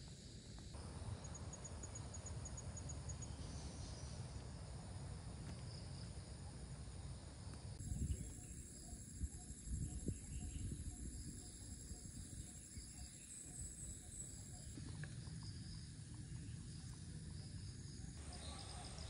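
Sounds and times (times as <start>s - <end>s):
insects droning: 0.0s - 19.0s
rapid insect chirping: 0.0s - 19.0s.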